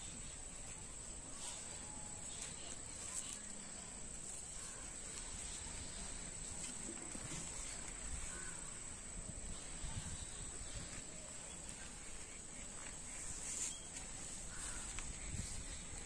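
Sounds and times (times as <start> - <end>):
field insects droning: 0.0 - 16.0.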